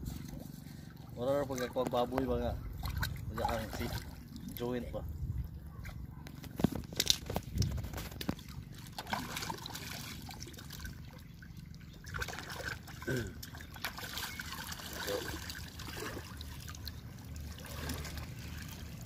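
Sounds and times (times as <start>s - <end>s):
shallow water splashing: 0.4s - 5.2s, 6.8s - 19.0s.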